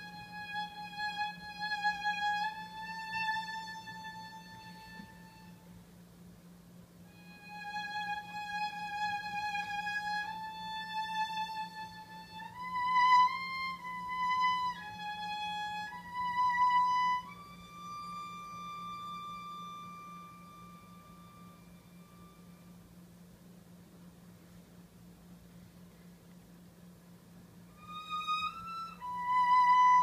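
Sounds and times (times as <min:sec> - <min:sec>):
slow bowed string melody: 0:00.0 - 0:05.8, 0:07.0 - 0:23.3, 0:27.3 - 0:30.0.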